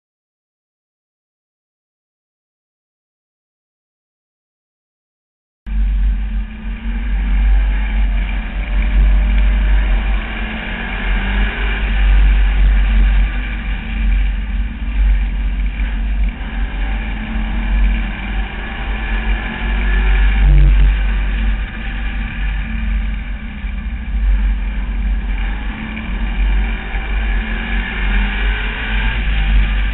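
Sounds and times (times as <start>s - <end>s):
race car engine running hard: 5.7s - 29.9s.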